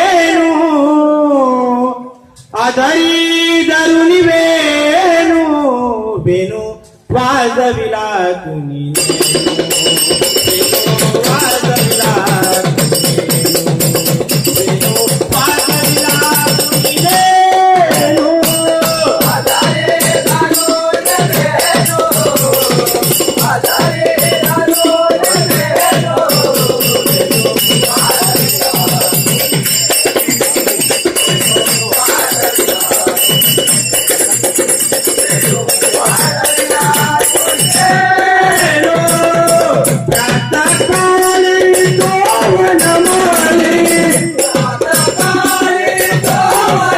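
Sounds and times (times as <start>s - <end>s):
fast hand drum beat: 9.0s - 46.9s
jingling percussion: 9.0s - 46.9s.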